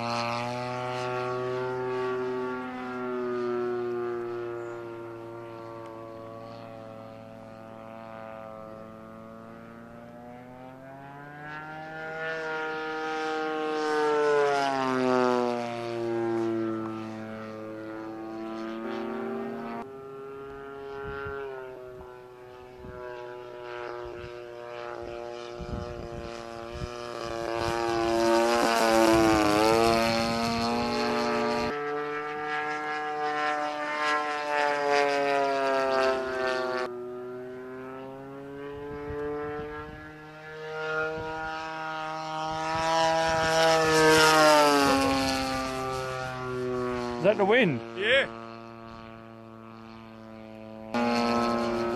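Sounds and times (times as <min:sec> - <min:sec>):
model plane engine and propeller buzzing: 0:00.0 - 0:51.9.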